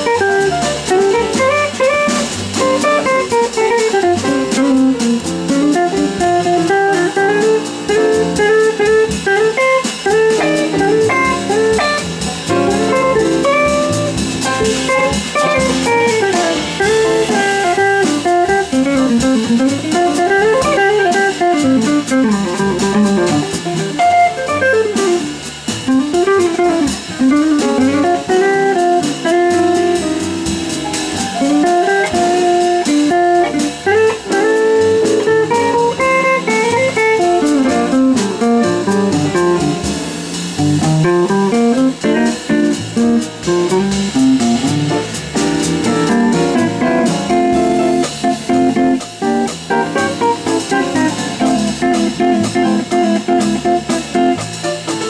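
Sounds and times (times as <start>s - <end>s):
jazz guitar: 0.0s - 55.0s
latin jazz band playing: 0.0s - 55.0s.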